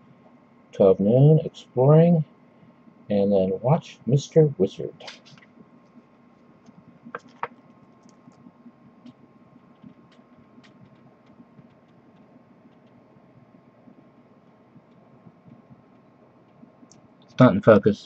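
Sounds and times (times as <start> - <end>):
room hum: 0.0 - 18.0.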